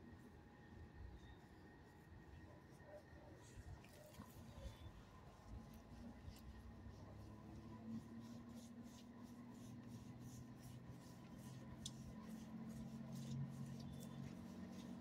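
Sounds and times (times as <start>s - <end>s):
low steady hum: 0.0s - 15.0s
glove rubbing dog fur: 1.2s - 15.0s.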